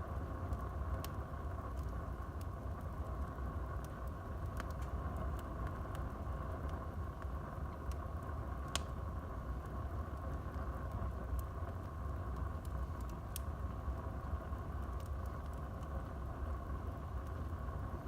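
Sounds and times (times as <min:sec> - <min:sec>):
wood fire crackling and hissing: 0:00.0 - 0:18.0.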